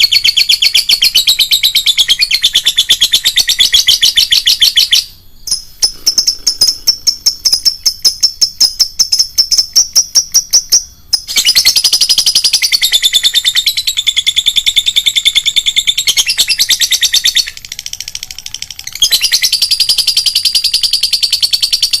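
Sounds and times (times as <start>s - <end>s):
lovebird chattering trill: 0.0s - 22.0s.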